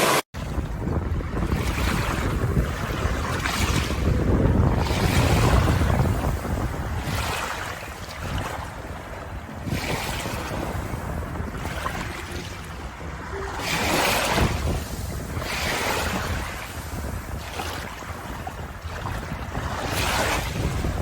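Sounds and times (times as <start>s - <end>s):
ocean waves washing in: 0.0s - 21.0s.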